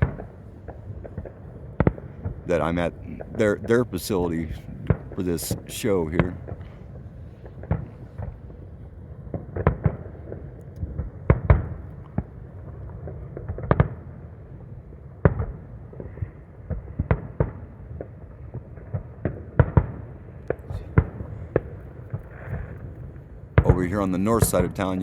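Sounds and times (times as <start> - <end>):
fireworks bangs: 0.0 - 14.2, 15.2 - 25.0.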